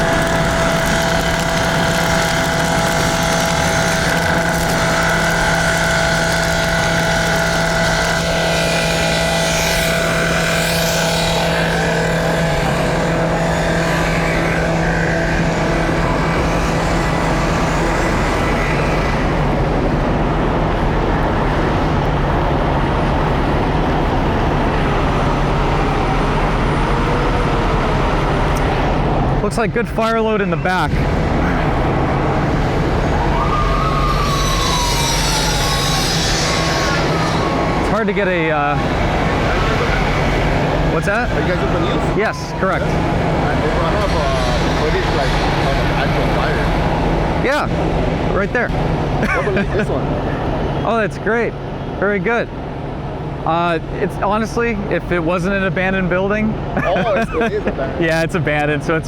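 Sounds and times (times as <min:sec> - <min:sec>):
vehicle engine low hum: 0:00.0 - 0:59.0.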